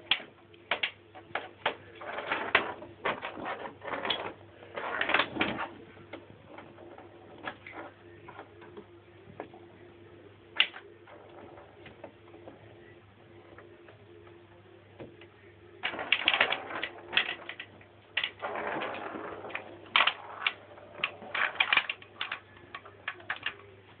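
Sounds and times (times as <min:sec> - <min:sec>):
foosball rods and figures rattling: 0:00.0 - 0:09.6, 0:10.5 - 0:13.7, 0:15.8 - 0:24.0.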